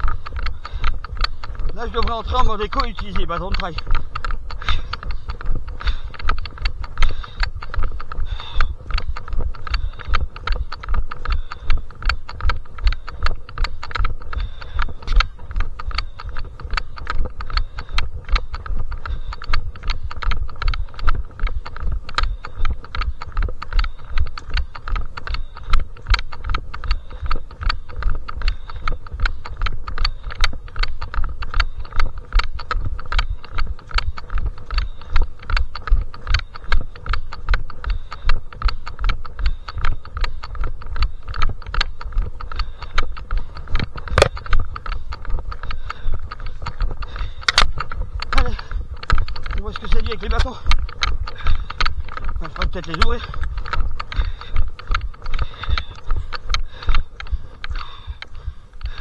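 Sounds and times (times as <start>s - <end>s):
footsteps on stony ground: 0.0s - 59.0s.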